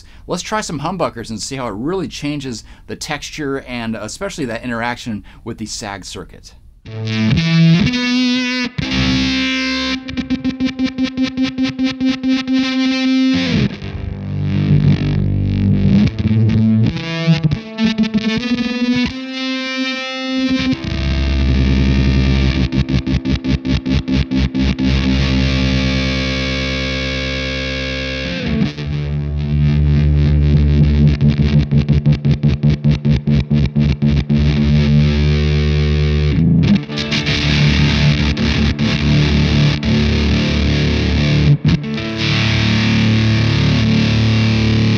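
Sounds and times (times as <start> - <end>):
distorted electric guitar: 6.7 - 44.9.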